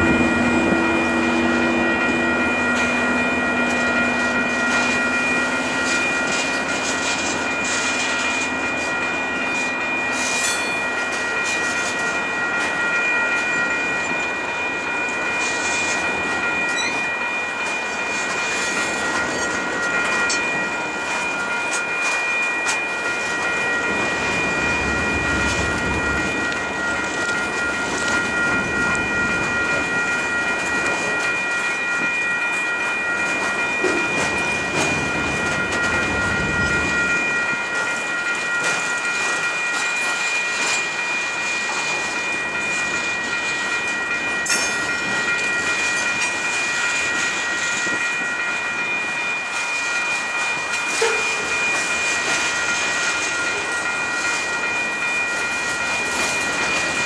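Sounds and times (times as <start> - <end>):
freight train wheels clacking: 0.0 - 57.0
high-pitched ringing tone: 0.0 - 57.0.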